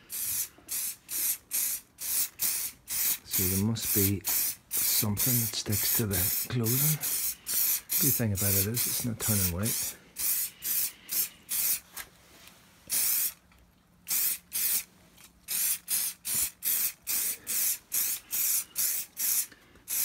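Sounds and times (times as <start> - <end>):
aerosol spray hissing: 0.0 - 11.8, 12.9 - 13.4, 14.1 - 14.9, 15.5 - 20.0.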